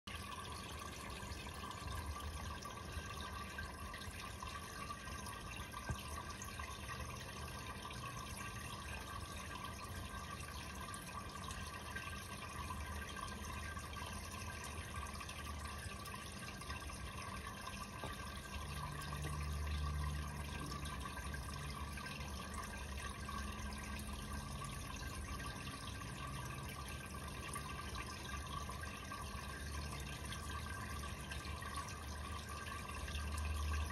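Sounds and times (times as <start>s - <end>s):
low pump hum: 0.1s - 33.9s
water trickling and bubbling: 0.1s - 33.9s.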